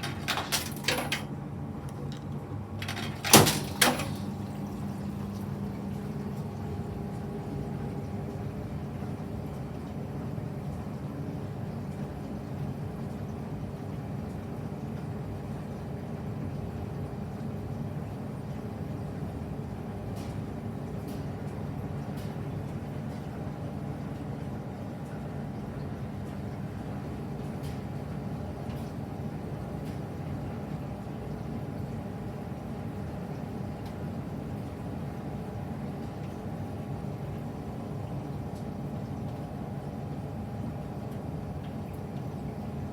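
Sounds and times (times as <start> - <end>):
washing machine motor hum: 0.0 - 42.9.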